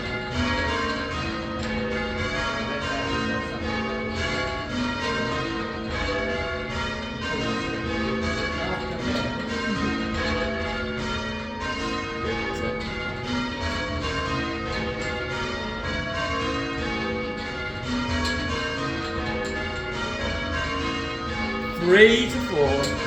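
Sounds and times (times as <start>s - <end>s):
church bells ringing changes: 0.0s - 23.0s.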